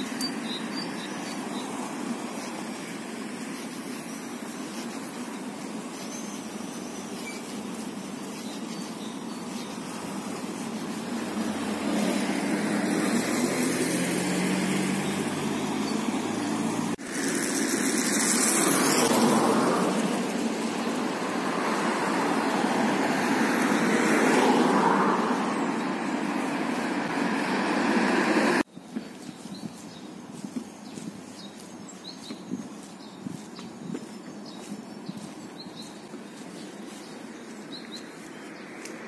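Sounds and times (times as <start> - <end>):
cars passing on street: 0.0 - 39.0.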